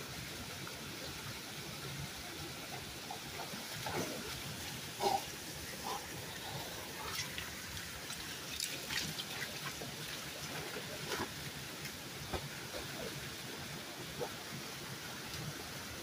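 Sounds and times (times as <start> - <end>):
water drips and small splashes: 0.1 - 16.0.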